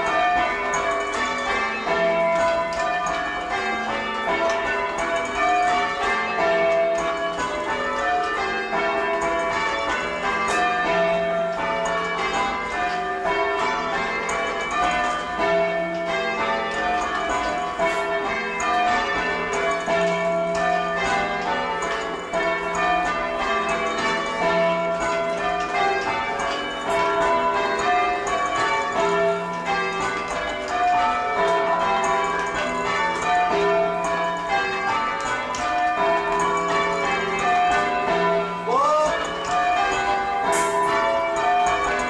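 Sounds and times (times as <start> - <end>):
tower bells change ringing: 0.0 - 42.0.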